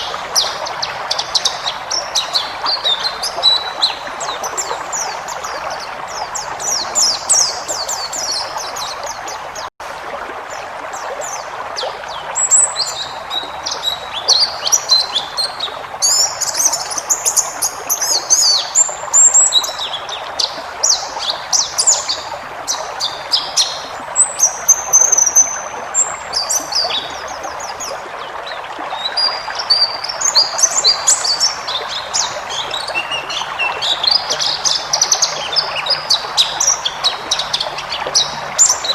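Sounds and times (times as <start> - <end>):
bird twittering song: 0.0 - 9.7, 11.0 - 38.9.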